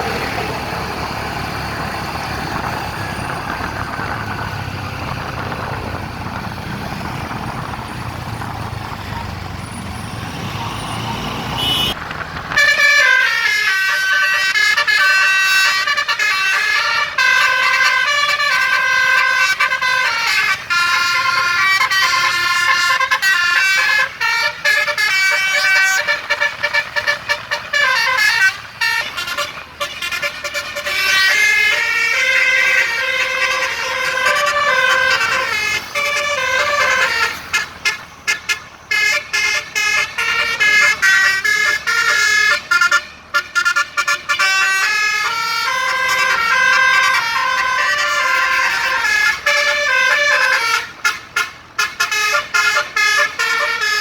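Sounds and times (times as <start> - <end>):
engine and road noise: 0.0 - 54.0
bus musical horn: 9.0 - 54.0.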